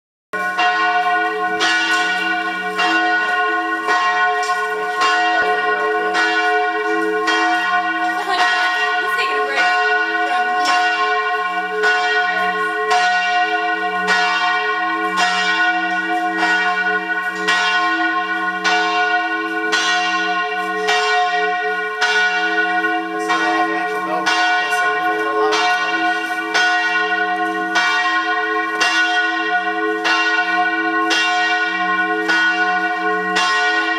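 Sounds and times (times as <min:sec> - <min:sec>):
church bells pealing: 0:00.4 - 0:33.9.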